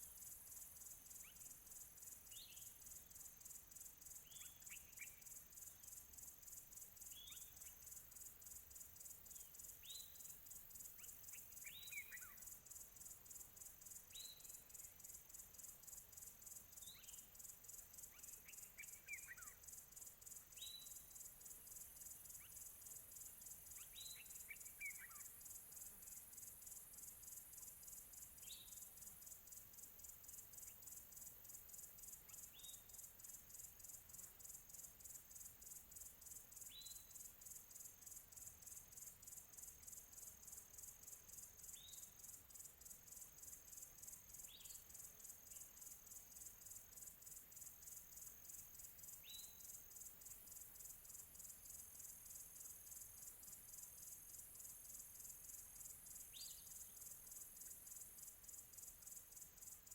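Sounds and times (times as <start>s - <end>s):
high pulsing insect trill: 0.1s - 59.9s.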